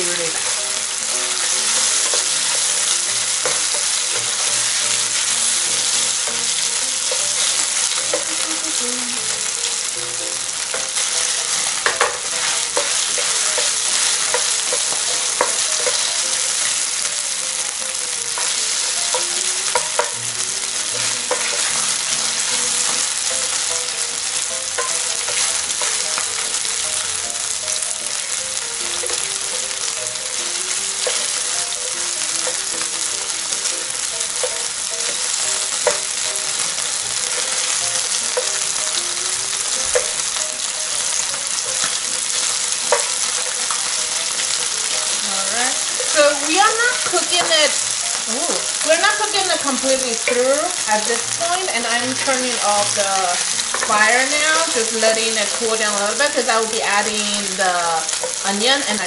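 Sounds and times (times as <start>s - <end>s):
chicken sizzling in oil: 0.0s - 59.0s.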